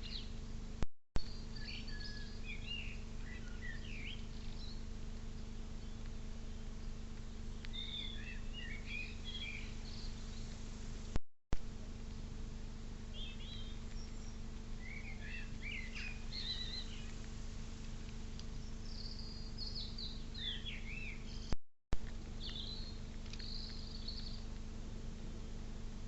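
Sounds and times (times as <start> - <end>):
small birds chirping: 0.0 - 0.6, 1.2 - 11.2, 13.0 - 24.7
steady low hum: 0.0 - 26.0.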